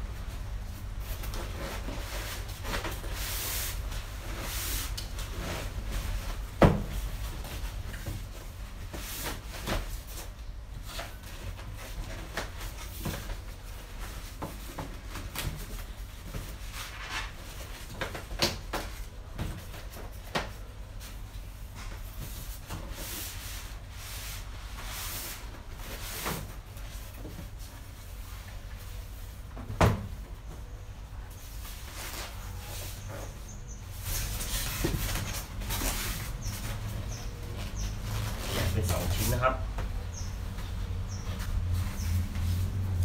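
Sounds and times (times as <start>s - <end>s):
cardboard rustling and scraping: 0.2s - 43.0s.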